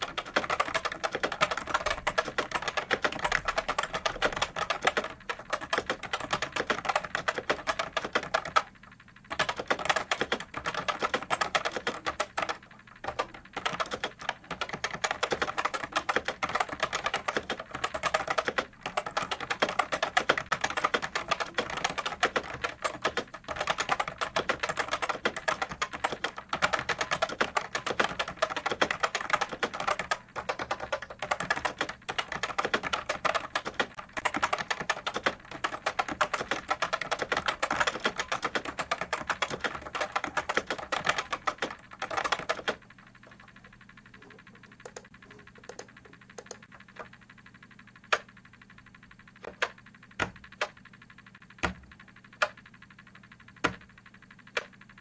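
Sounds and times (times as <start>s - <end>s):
fast typing on clicky keyboard: 0.0s - 55.0s.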